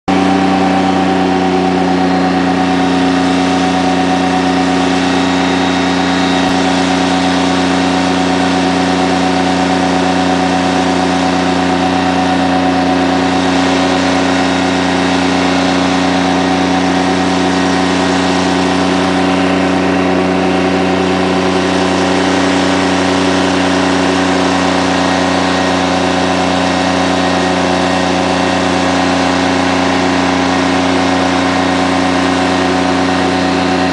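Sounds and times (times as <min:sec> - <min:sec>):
armoured vehicle engine drone: 0:00.0 - 0:33.9.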